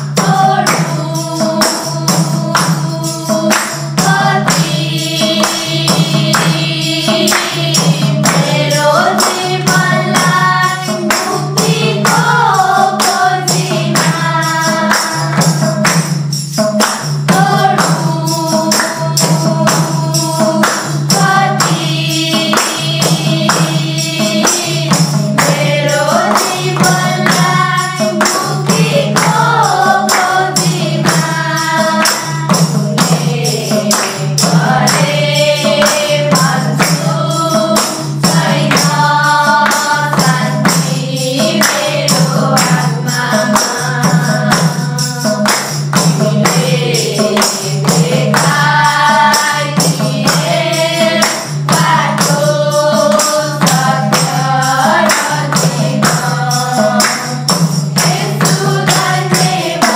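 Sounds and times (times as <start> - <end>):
group of young voices singing: 0.0 - 59.9
tambourine beat: 0.0 - 59.9
hand-clapping: 0.5 - 59.9.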